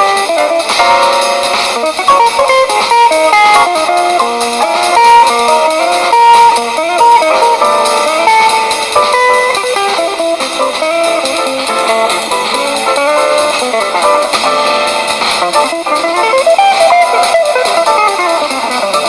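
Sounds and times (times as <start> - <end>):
guitar melody: 0.0 - 19.0
strummed guitar chords: 0.0 - 19.0.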